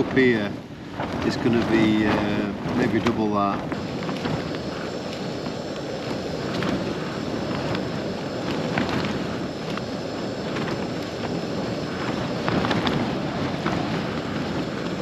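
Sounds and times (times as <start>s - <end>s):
strong wind: 0.0s - 15.0s.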